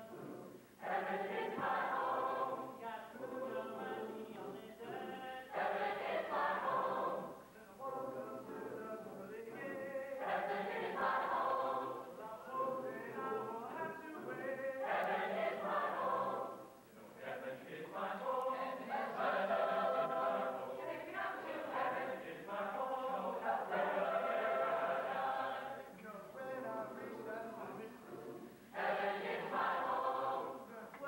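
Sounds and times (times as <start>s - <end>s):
choir singing in harmony: 0.0s - 31.0s.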